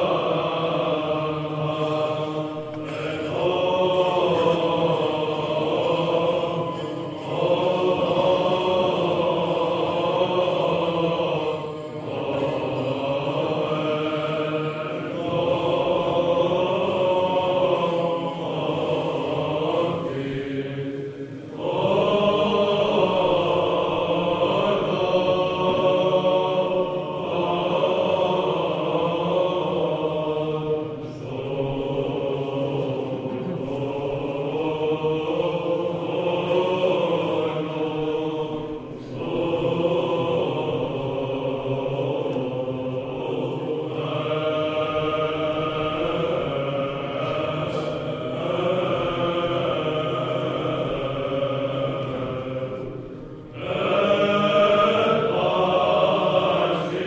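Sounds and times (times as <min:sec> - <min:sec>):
chant in long held phrases: 0:00.0 - 0:57.0.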